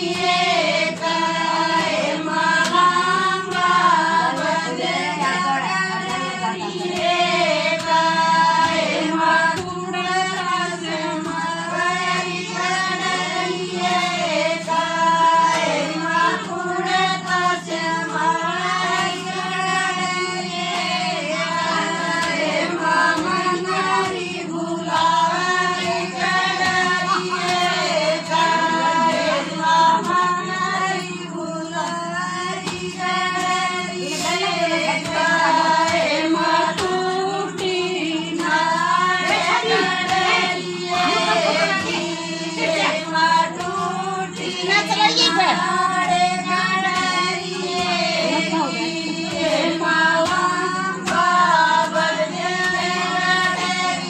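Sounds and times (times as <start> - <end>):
steady low hum: 0.0 - 54.0
women singing folk song: 0.0 - 54.0.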